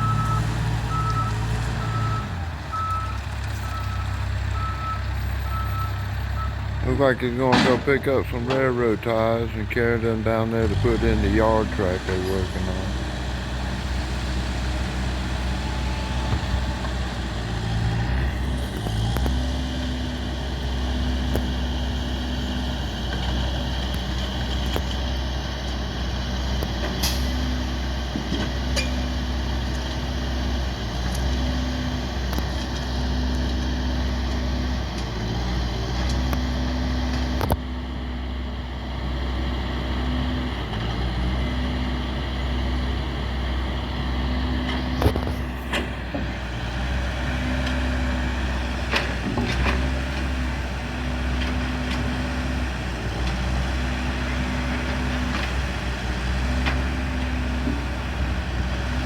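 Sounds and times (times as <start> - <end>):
heavy vehicle engine rumbling: 0.0 - 59.0.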